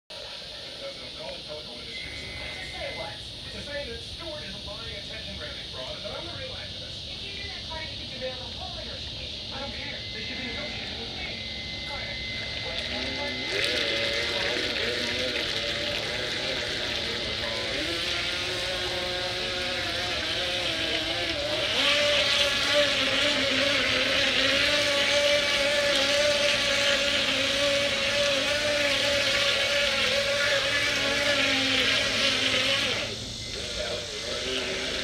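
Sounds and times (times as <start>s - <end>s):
remote-control boat motor whining: 1.2s - 3.9s, 7.3s - 35.0s.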